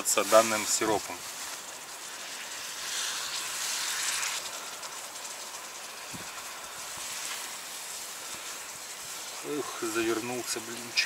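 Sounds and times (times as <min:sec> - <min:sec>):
crepes sizzling in a frying pan: 0:00.0 - 0:11.0.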